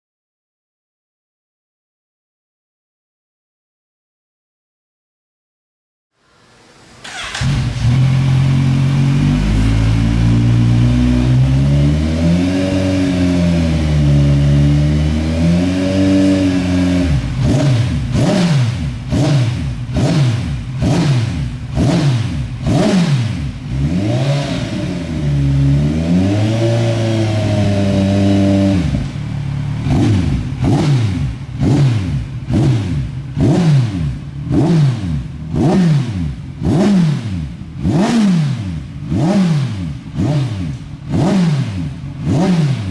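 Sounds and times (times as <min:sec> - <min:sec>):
motorcycle engine revving: 0:07.0 - 0:42.9.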